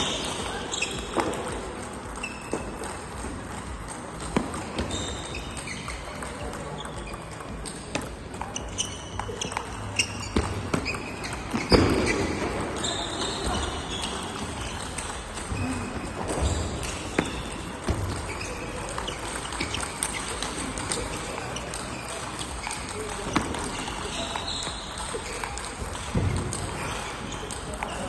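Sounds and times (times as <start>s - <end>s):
background chatter: 0.0s - 28.0s
table tennis balls clicking: 0.0s - 28.0s.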